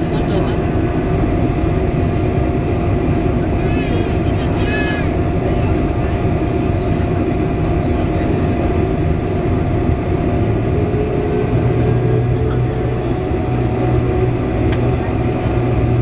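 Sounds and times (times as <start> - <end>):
aircraft cabin rush: 0.0 - 16.0
low hum: 0.0 - 16.0
thin steady whine: 0.0 - 16.0.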